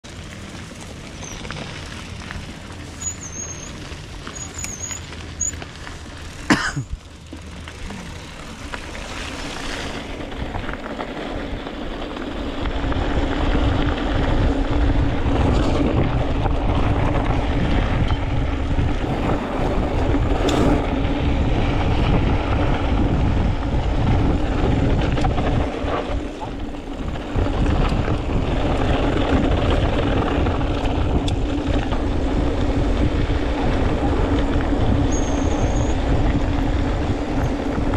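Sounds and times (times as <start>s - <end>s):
bike tyres rolling: 0.0s - 37.9s
wind rumbling: 0.0s - 37.9s.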